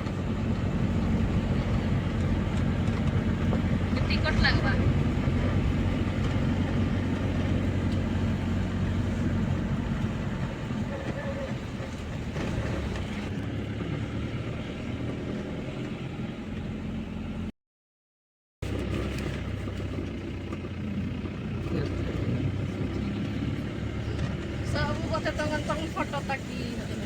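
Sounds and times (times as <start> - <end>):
road noise: 0.0 - 17.5, 18.6 - 27.0
vehicle engine rumble: 0.0 - 17.6, 18.6 - 27.0.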